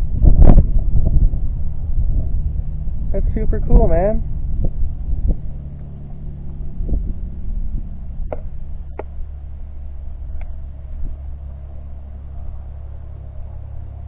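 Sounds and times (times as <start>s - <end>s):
plane engine droning: 0.0s - 14.0s.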